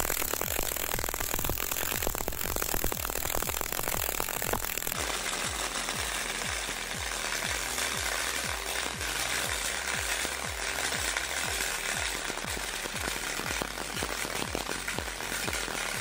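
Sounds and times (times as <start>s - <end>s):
welding arc crackling: 0.0s - 16.0s.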